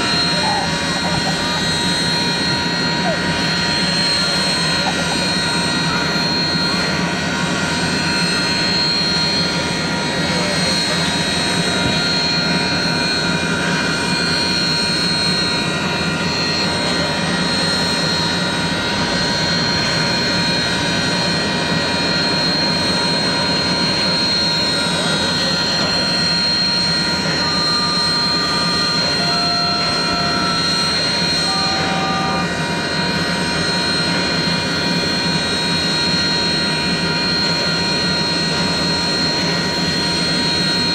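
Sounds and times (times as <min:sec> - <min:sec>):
high even whine: 0:00.0 - 0:40.9.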